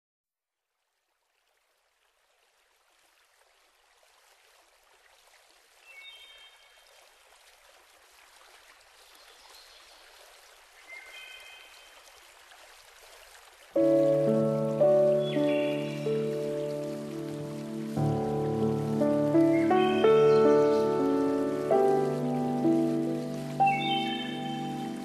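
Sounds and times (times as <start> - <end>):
faint rushing stream: 0.8 - 25.0.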